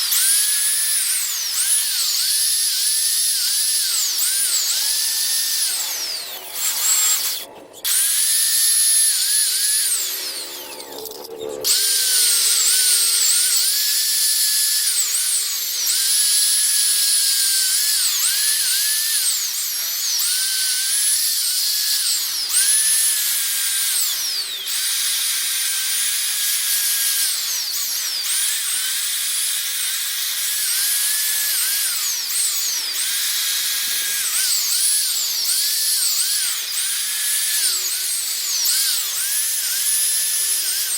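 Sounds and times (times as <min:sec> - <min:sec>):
power tool whine buffing metal: 0:00.0 - 0:40.9.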